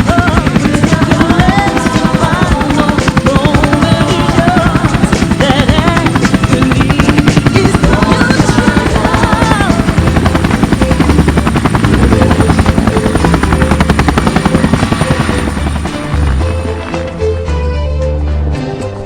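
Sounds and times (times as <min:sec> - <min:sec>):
helicopter rotor chopping: 0:00.0 - 0:17.7
background music: 0:00.0 - 0:19.0.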